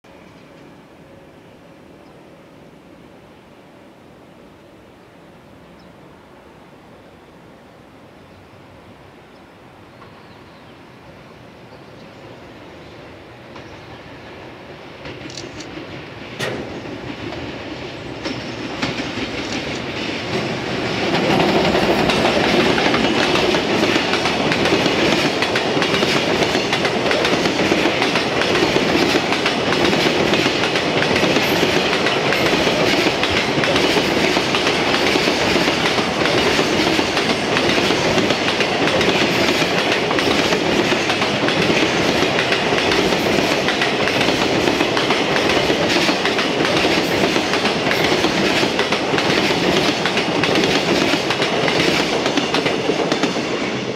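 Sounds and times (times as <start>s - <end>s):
electric locomotive passing: 0.0s - 53.9s.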